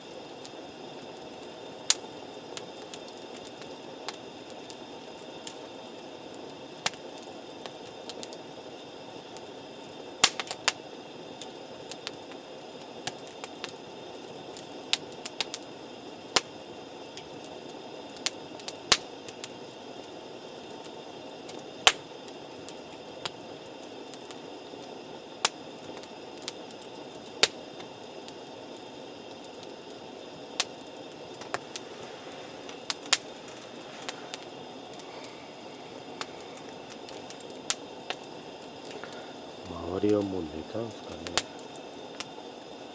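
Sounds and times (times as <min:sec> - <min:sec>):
campfire burning: 0:00.0 - 0:42.9
fire pops and crackles: 0:00.0 - 0:42.9.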